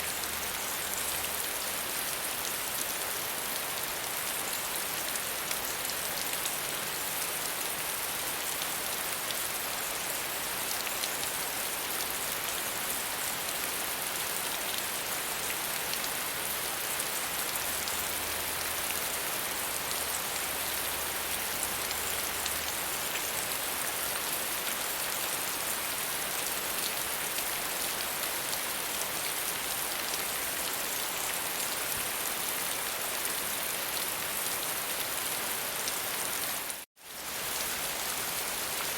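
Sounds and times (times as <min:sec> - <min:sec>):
gentle rain patter: 0:00.0 - 0:38.9.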